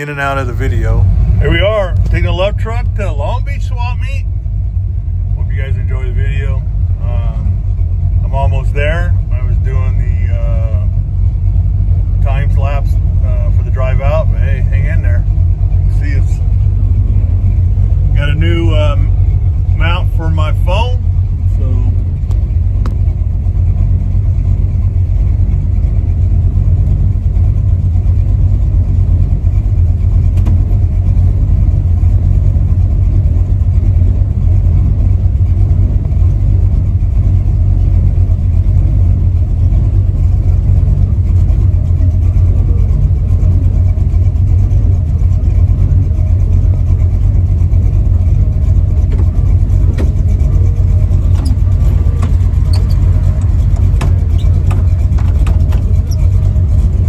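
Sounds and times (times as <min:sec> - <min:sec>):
deep engine rumble inside cab: 0:00.0 - 0:57.0.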